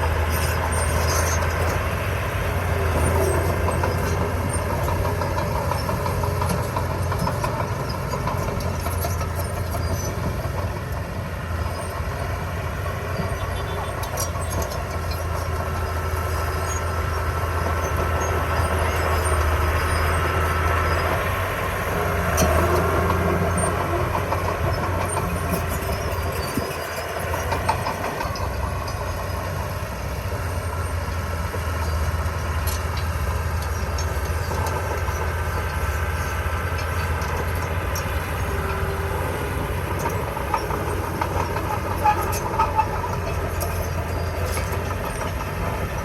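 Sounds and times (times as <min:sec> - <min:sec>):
diesel engine drone: 0:00.0 - 0:46.0.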